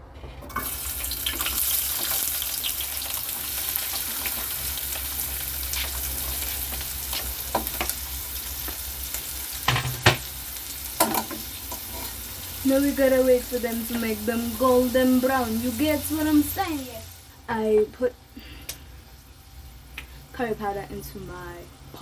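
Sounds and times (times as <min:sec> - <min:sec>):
onions sizzling in a pot: 0:00.4 - 0:22.0.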